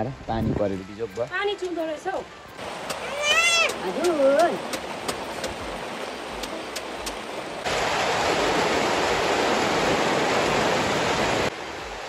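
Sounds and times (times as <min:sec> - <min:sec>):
rain falling: 0:01.2 - 0:12.0.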